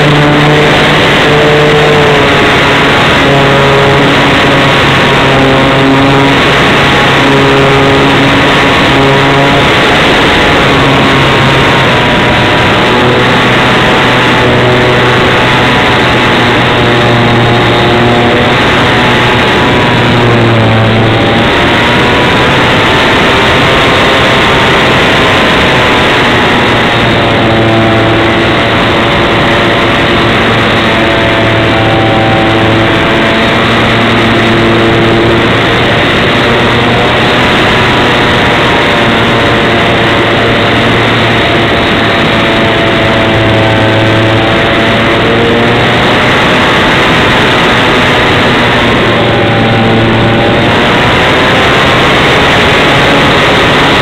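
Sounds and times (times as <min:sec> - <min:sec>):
model airplane motor whine: 0:00.0 - 0:54.0
wind rush on microphone: 0:00.0 - 0:54.0.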